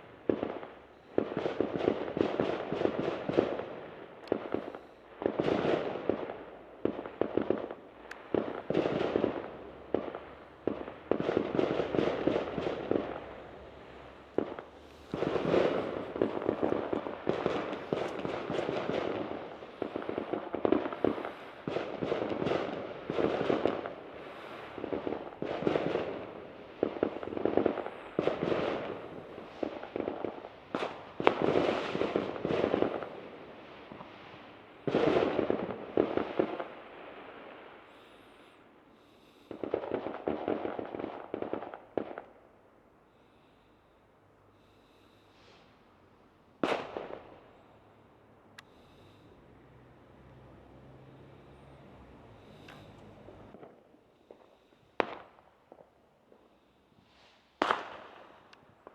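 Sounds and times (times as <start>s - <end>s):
fireworks bangs and crackling: 0.0s - 42.5s, 46.6s - 48.0s, 50.1s - 58.9s.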